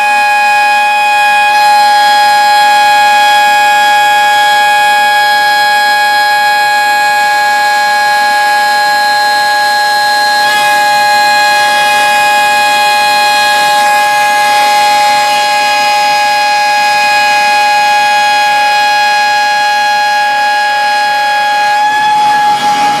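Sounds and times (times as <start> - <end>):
router spindle milling whine: 0.0 - 23.0.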